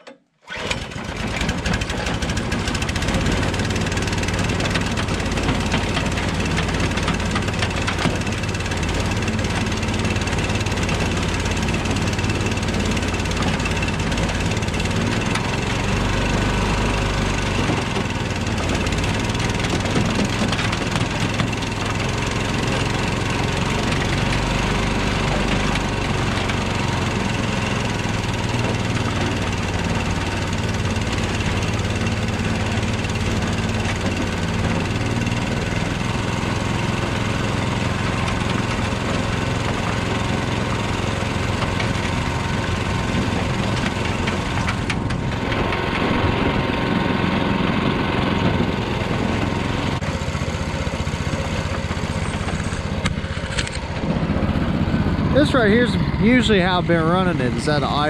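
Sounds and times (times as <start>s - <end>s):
small gasoline engine running: 0.4s - 58.0s.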